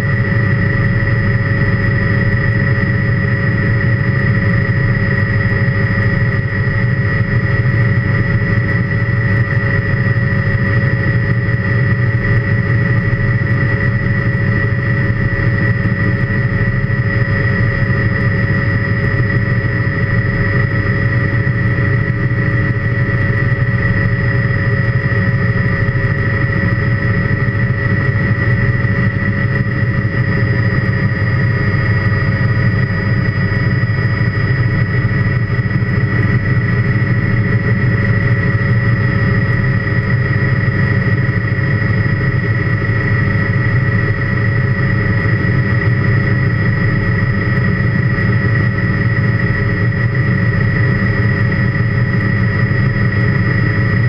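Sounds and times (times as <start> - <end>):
helicopter rotor and engine rumble: 0.0 - 54.0
high-pitched helicopter whine: 0.0 - 54.0.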